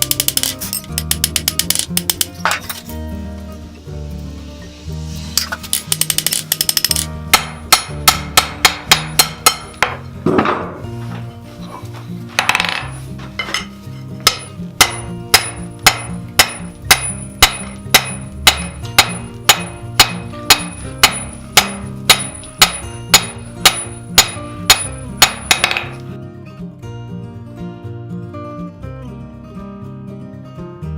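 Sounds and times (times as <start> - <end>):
acoustic guitar music: 0.0 - 30.9.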